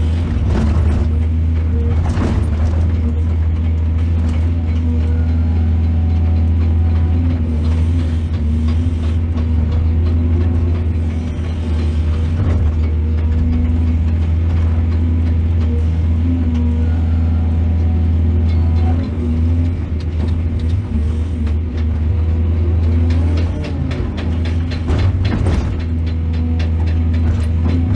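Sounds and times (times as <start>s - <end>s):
excavator diesel engine droning: 0.0s - 27.9s.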